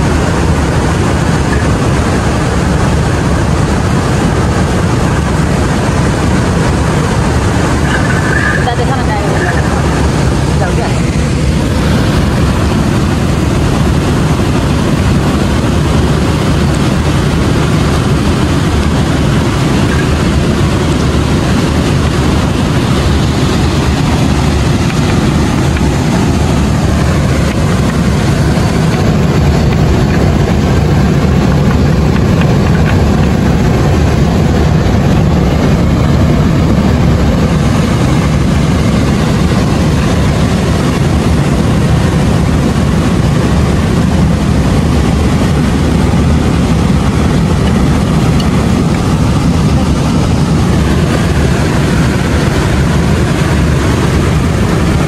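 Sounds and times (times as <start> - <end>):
river rushing over boulders: 0.0 - 55.0.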